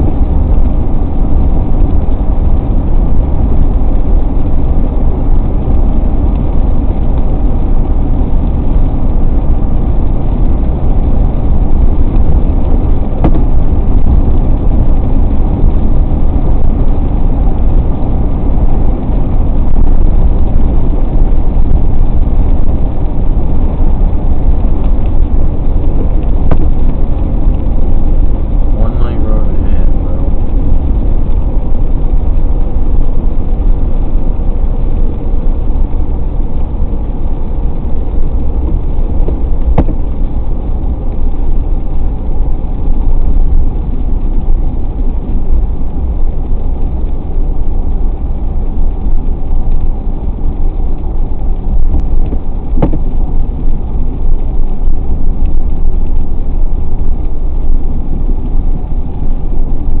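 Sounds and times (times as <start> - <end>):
car road and engine rumble: 0.0 - 60.0.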